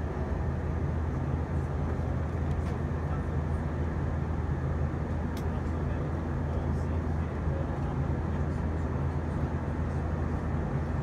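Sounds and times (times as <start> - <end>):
airplane engines droning: 0.0 - 11.0.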